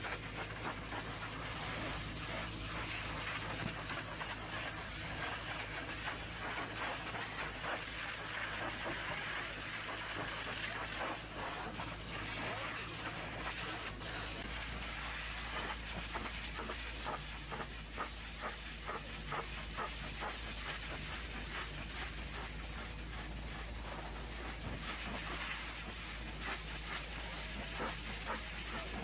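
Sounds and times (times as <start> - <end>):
low steady hum: 0.0 - 29.0
pressure washer spray hissing: 0.0 - 29.0
spray crackling spatter: 0.0 - 29.0.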